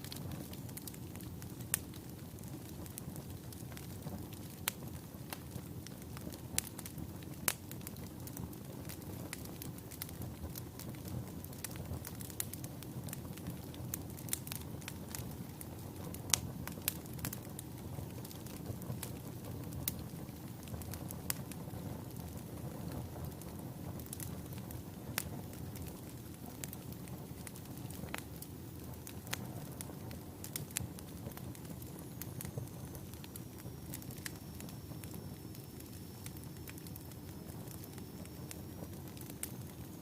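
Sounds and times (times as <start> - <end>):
burning logs crackling and popping: 0.0 - 40.0
wood fire burning: 0.0 - 40.0.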